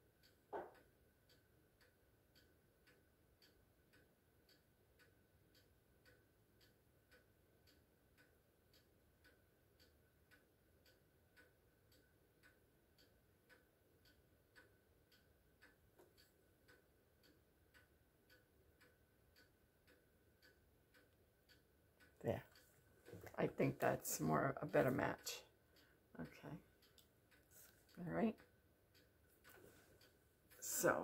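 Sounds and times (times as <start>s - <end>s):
faint ticking: 0.0s - 31.0s.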